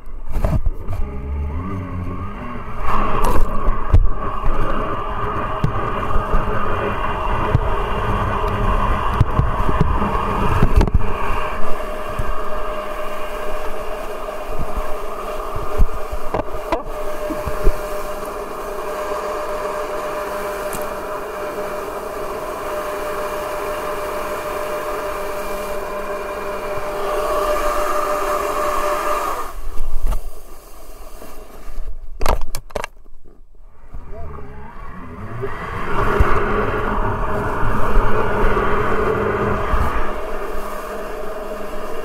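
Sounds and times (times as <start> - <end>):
jet drive whining: 0.0 - 29.7, 33.6 - 42.0
water rushing: 1.0 - 31.8, 33.8 - 42.0.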